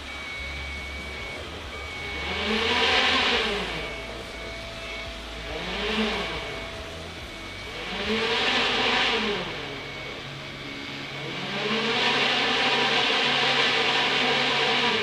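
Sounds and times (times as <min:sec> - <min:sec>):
motor passing: 0:00.0 - 0:15.0.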